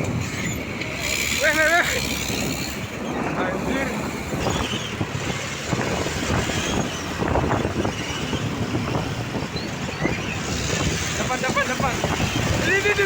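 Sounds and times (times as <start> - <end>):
truck traffic rumble: 0.0 - 13.0
wind buffeting microphone: 0.0 - 13.0.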